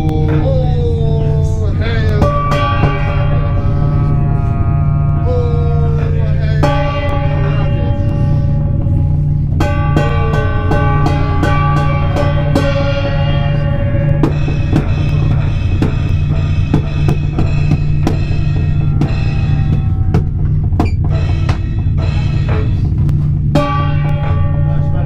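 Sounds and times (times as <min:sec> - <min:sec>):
sharp drum-like hits: 0:00.0 - 0:04.4, 0:05.9 - 0:25.0
experimental noise music: 0:00.0 - 0:25.0.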